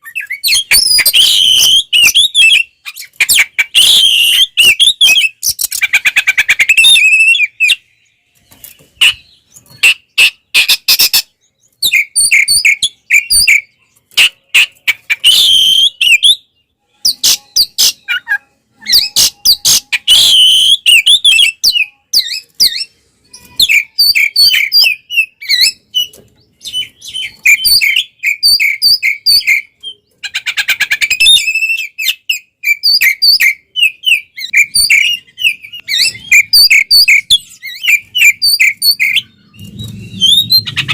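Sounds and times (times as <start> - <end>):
bird singing whistled phrases: 0.0 - 7.9, 14.6 - 30.1, 30.8 - 40.9.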